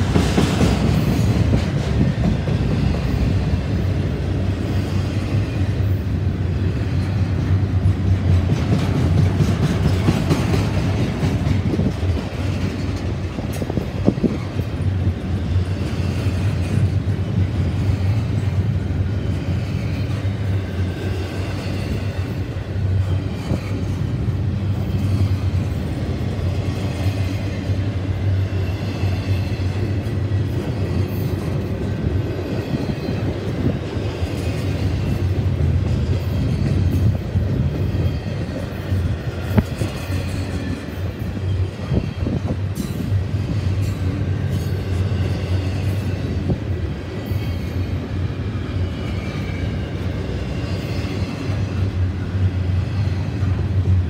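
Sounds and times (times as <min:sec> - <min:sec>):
freight train wheels rumbling: 0:00.0 - 0:54.0
train clanks and clicks: 0:00.0 - 0:54.0.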